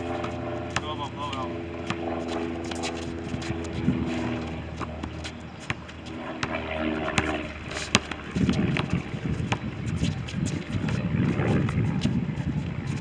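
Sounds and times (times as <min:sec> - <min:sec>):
basketball bouncing on asphalt: 0:00.0 - 0:12.4.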